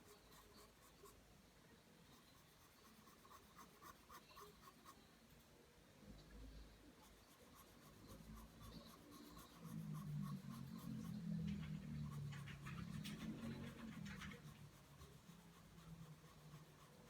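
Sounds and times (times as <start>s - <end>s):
pencil scratching on paper: 0.0s - 1.2s, 2.0s - 5.1s, 7.0s - 17.0s.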